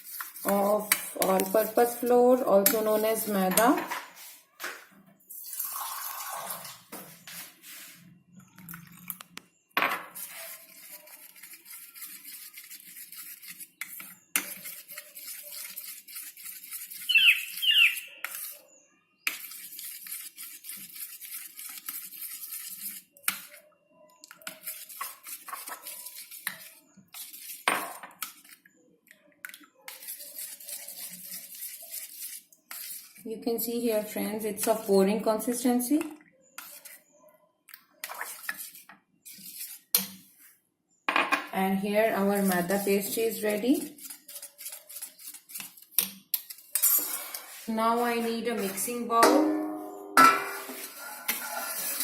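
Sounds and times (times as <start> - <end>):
utensil stirring batter in bowl: 0.0 - 4.3, 10.1 - 23.6, 24.2 - 28.8, 29.5 - 37.1, 37.7 - 40.4, 41.7 - 52.0.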